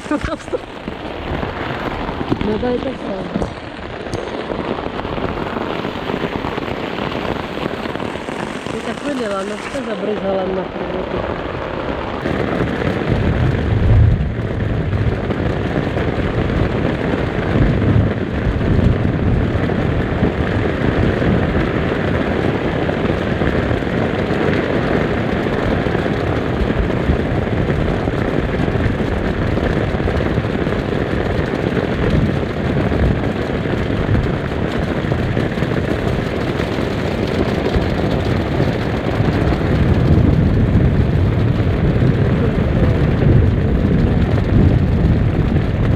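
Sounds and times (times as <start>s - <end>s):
heavy rain: 0.0s - 45.9s
wind gusts buffeting microphone: 0.0s - 45.9s.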